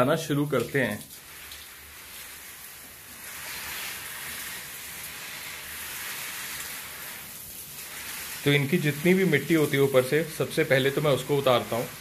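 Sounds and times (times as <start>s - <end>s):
water spraying onto leaves: 0.0s - 12.0s.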